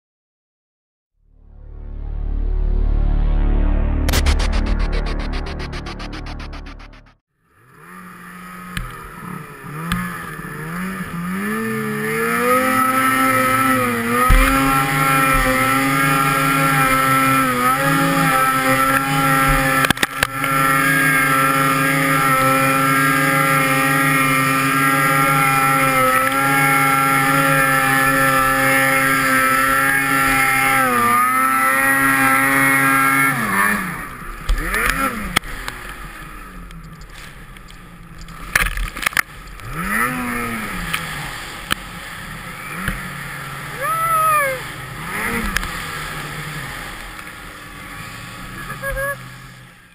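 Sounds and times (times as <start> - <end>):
snowmobile engine revving: 1.7 - 36.7, 39.3 - 49.8.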